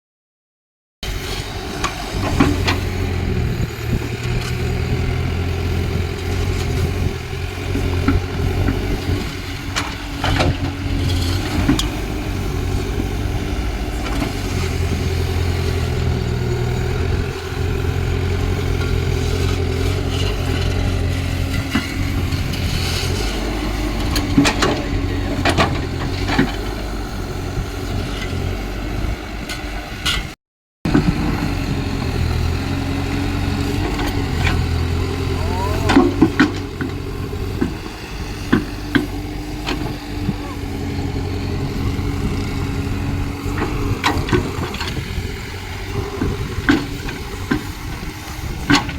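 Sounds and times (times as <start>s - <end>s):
excavator diesel engine running: 1.0s - 48.9s.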